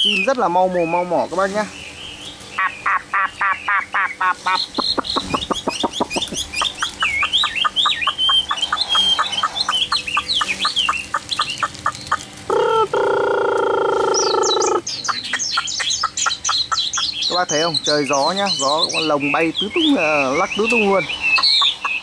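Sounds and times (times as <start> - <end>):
bird singing: 0.0 - 22.0.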